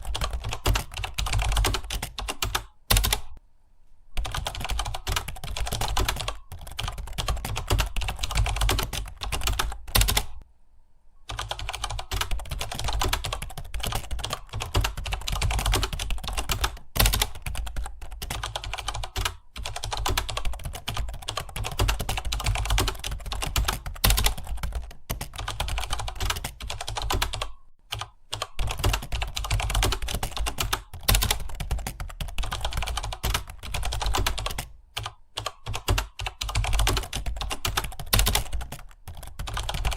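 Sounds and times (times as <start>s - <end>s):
keyboard typing: 0.0s - 3.4s, 4.2s - 10.4s, 11.3s - 39.9s.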